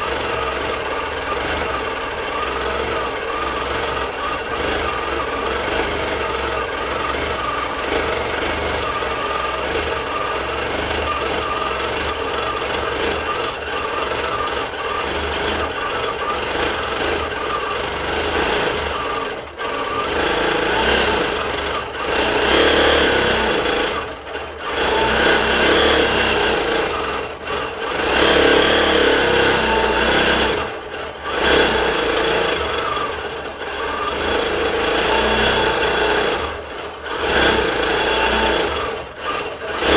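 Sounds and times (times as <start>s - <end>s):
quilting machine stitching: 0.0s - 39.9s.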